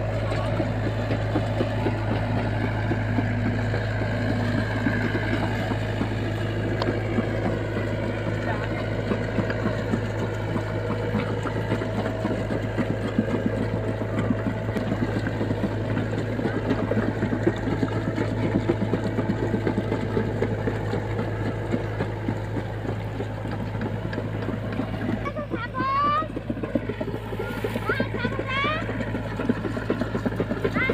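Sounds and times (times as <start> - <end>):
excavator diesel engine hum: 0.0 - 30.9.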